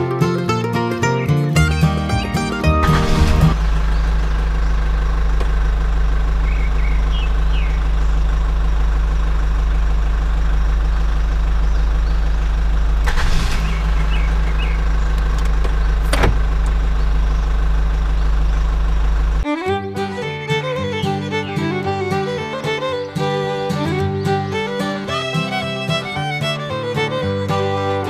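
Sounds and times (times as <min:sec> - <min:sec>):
motor droning: 0:02.4 - 0:28.0.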